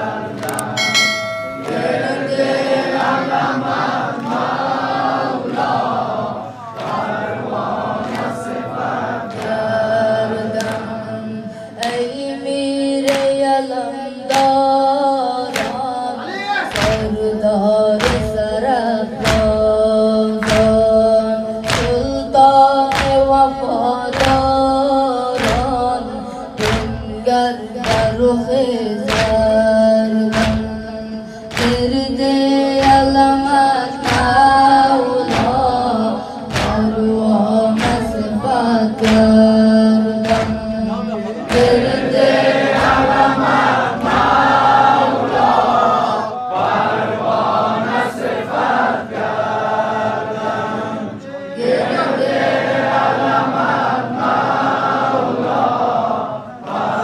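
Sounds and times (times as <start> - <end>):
boy chanting into microphone: 2.0 - 46.9, 47.6 - 57.0.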